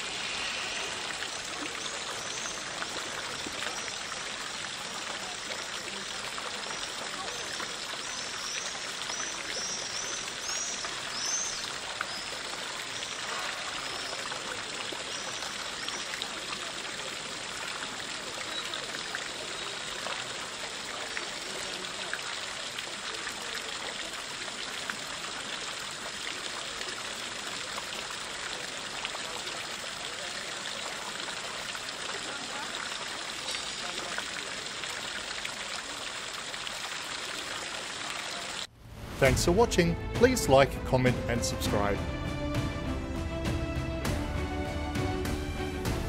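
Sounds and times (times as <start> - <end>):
fountain water splashing: 0.0 - 42.6.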